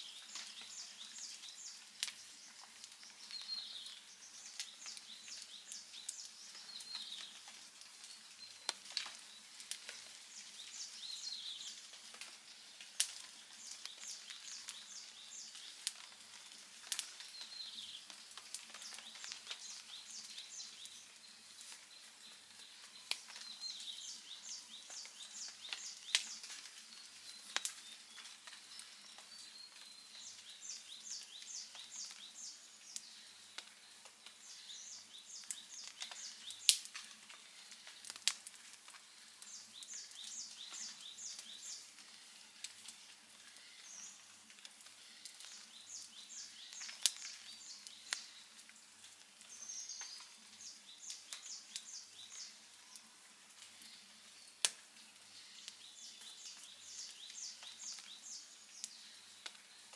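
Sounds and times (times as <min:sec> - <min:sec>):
campfire crackling: 0:00.0 - 0:59.9
fire popping: 0:00.1 - 0:59.9.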